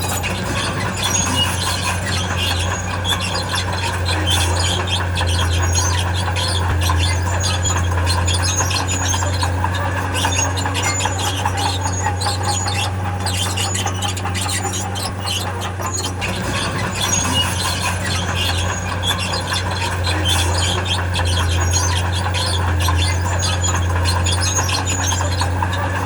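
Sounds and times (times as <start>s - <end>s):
engine low drone: 0.0s - 26.0s
steel crawler tracks squealing: 0.0s - 26.0s.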